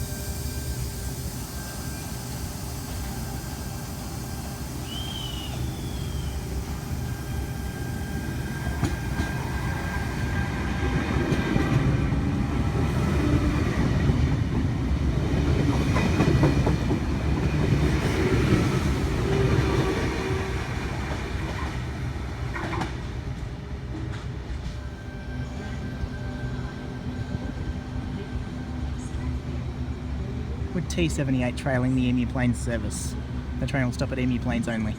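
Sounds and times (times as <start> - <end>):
electric train passing: 0.0 - 34.9.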